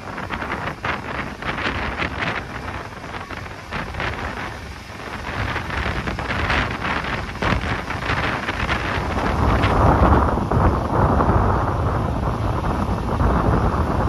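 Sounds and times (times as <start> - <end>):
train rumbling: 0.0 - 14.0
wind buffeting microphone: 0.0 - 14.0.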